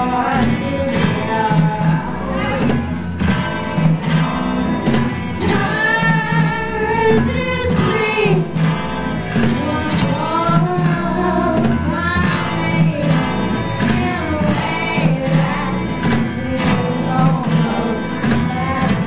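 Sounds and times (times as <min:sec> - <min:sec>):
person singing: 0:00.0 - 0:03.0, 0:05.4 - 0:19.0
punk rock band playing live: 0:00.0 - 0:19.0.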